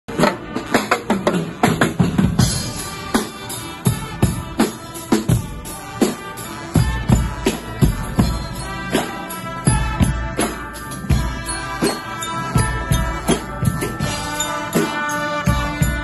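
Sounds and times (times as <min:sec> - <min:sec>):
cymbals: 0:00.1 - 0:16.0
marching drums: 0:00.1 - 0:16.0
snare drums: 0:00.1 - 0:16.0.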